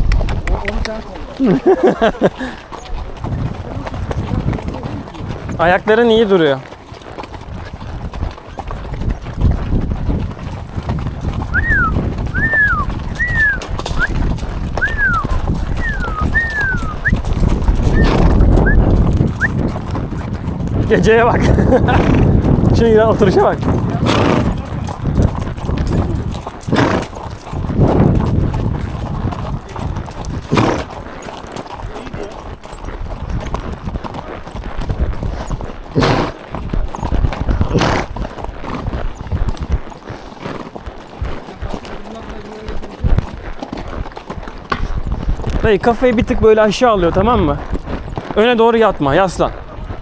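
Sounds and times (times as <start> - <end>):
horse hoofbeats: 0.0 - 50.0.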